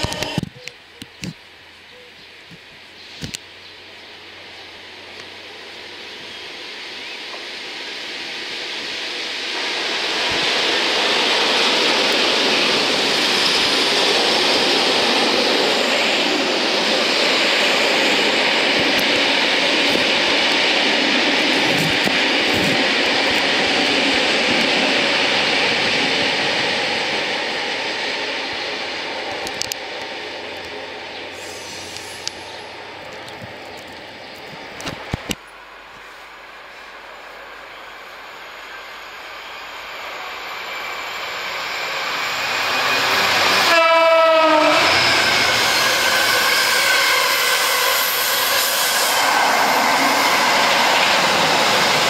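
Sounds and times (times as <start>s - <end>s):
diesel locomotive passing: 0.0s - 52.0s.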